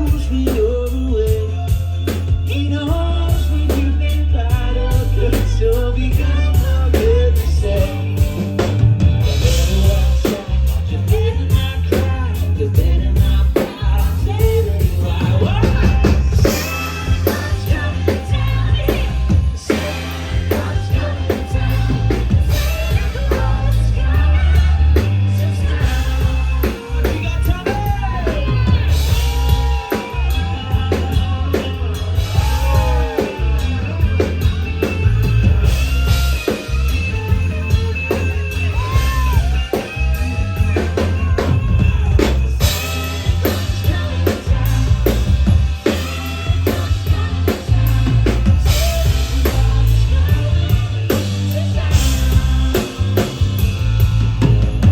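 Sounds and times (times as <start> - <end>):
person singing: 0.0 - 54.6
drum kit: 0.0 - 54.9
guitar: 0.0 - 54.9
heavy bass: 0.0 - 54.9.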